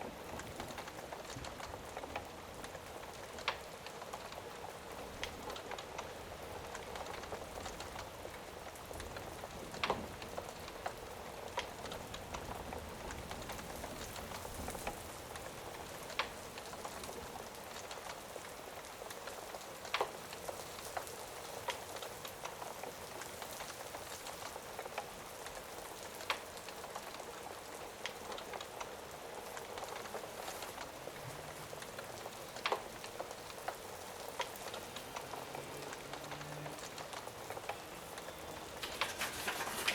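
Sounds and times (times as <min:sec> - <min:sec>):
fire crackling and popping: 0:00.0 - 0:39.9
steady rain: 0:00.0 - 0:39.9.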